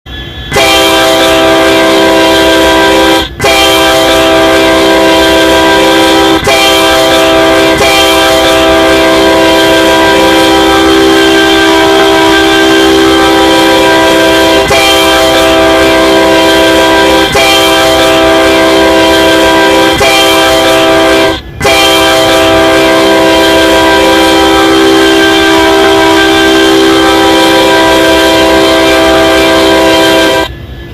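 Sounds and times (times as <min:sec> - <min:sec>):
locomotive air horn chord: 0:00.1 - 0:30.9.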